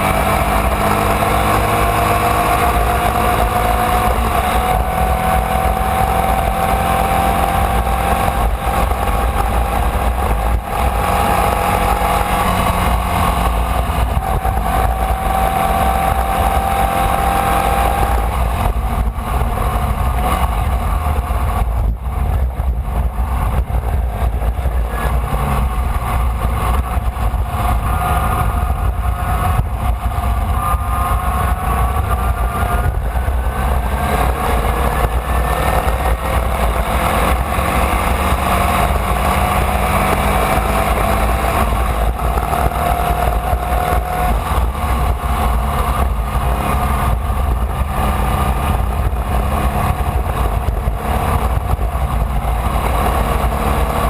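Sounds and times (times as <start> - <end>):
race car engine accelerating: 0.0 - 54.0
wind rumble on microphone: 0.0 - 54.0.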